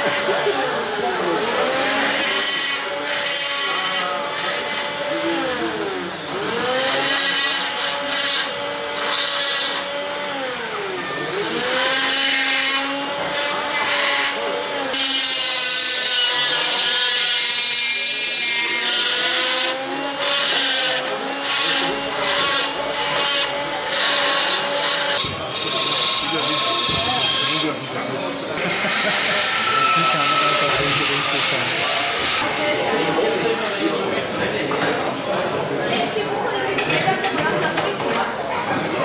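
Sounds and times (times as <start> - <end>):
rotary tool motor whine: 0.0 - 33.9.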